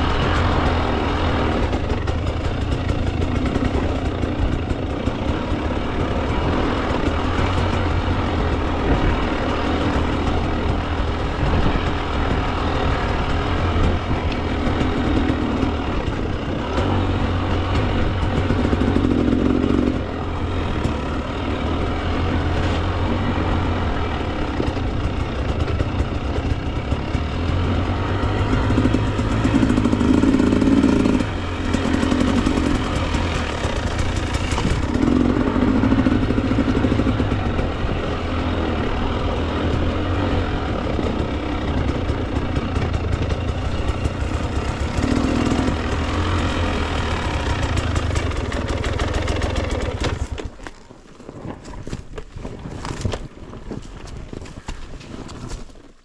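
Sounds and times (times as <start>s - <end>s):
dirt bike engine revving: 0.0s - 50.6s.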